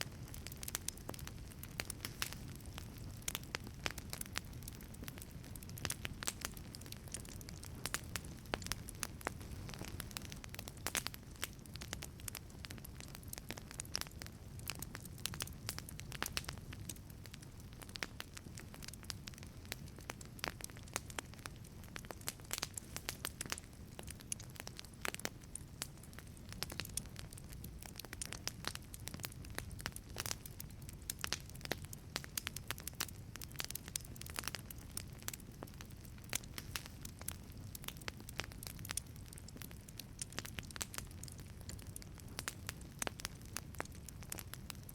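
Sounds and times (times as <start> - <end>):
low fire rumble: 0.0 - 44.9
wood fire crackling: 0.0 - 44.9.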